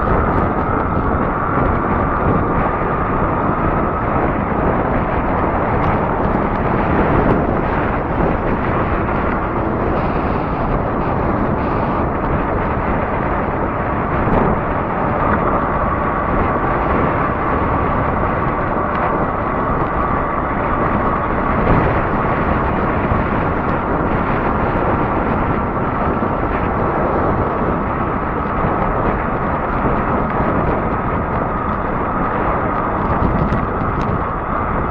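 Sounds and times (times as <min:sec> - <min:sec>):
faint steady whine: 0:00.0 - 0:34.9
tire road noise on asphalt: 0:00.0 - 0:34.9
wind rush on microphone: 0:00.0 - 0:34.9.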